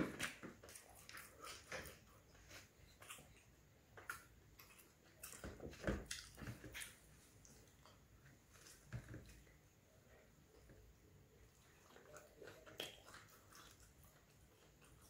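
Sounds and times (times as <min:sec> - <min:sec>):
wet food squishes: 0:00.0 - 0:09.5, 0:11.4 - 0:15.0.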